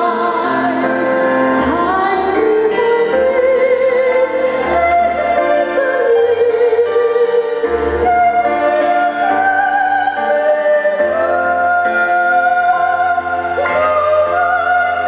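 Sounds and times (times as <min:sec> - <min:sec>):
woman singing operatically: 0:00.0 - 0:15.0.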